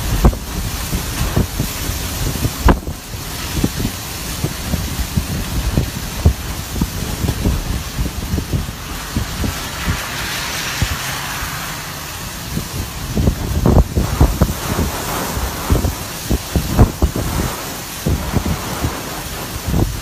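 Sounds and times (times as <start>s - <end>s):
heavy rain roaring: 0.0s - 20.0s
wind gusts buffeting microphone: 0.0s - 20.0s.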